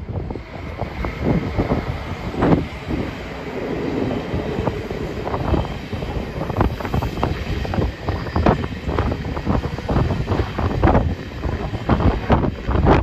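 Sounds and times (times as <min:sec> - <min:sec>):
train rail rumble: 0:00.0 - 0:13.0.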